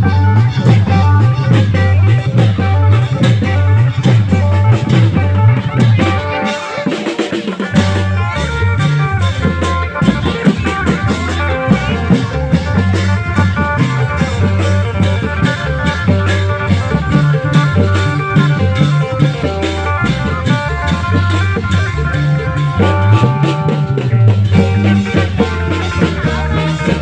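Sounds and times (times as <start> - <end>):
bass line: 0.0 - 27.0
drums: 0.0 - 27.0.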